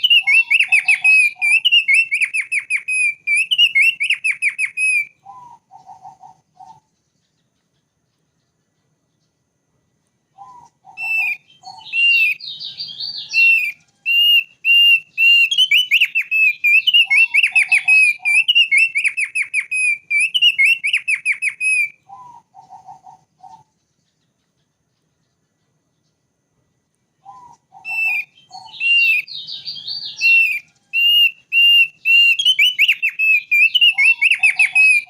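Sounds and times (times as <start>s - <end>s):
bird singing whistled notes: 0.0s - 9.5s, 10.3s - 26.2s, 27.1s - 35.0s.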